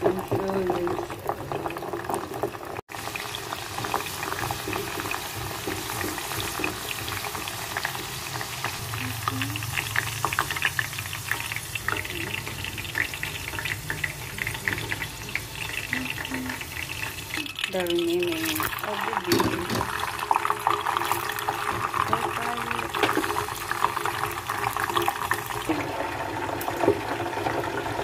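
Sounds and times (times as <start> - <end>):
beans deep-frying in hot oil: 0.0 - 28.0.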